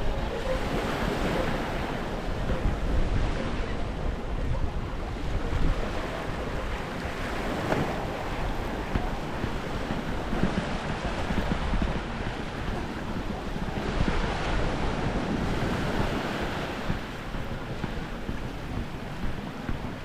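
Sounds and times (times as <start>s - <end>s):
small waves washing on sand: 0.0s - 20.0s
wind buffeting microphone: 0.0s - 20.0s.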